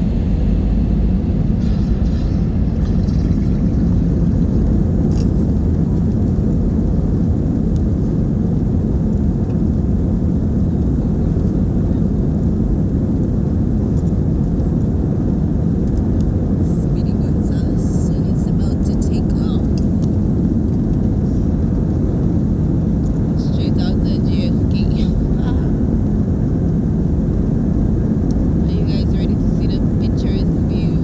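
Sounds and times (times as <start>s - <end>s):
jet airliner cabin rumble: 0.0s - 31.0s.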